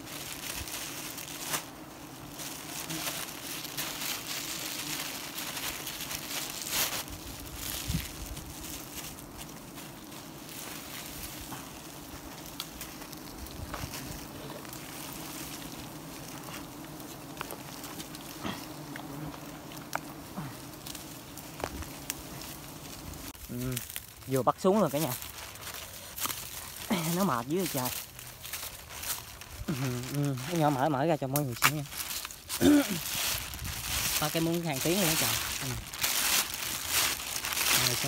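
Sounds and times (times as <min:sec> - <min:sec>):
bees buzzing: 0:00.0 - 0:38.0
rustling leaves and twigs: 0:00.0 - 0:38.0
twigs snapping: 0:00.0 - 0:38.0.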